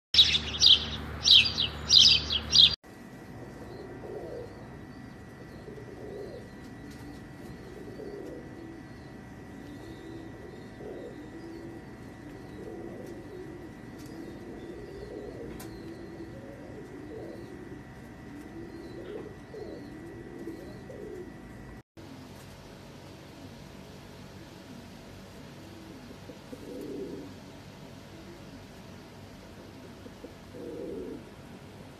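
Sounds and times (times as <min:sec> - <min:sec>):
pigeons cooing: 0:00.2 - 0:22.4, 0:23.1 - 0:31.9.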